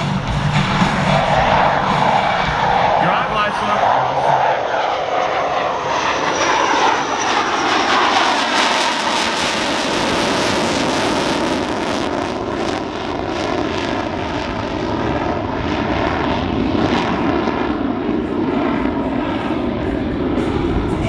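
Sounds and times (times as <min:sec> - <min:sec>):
jet engine roar with crackle: 0:00.0 - 0:21.0.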